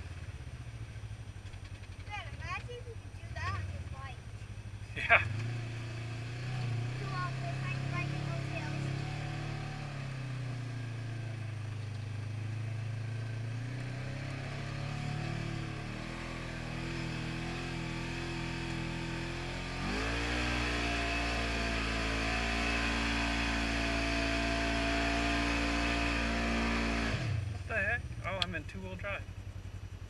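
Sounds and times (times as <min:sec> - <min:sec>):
engine pulling under throttle: 0:00.0 - 0:30.0.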